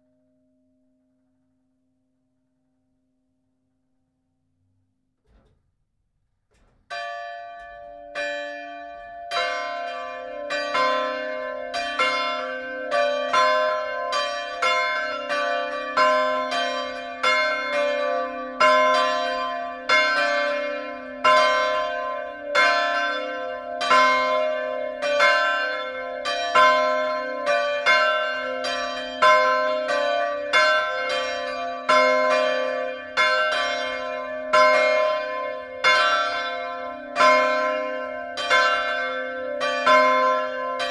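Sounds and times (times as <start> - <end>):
church bells pealing: 6.9 - 40.9.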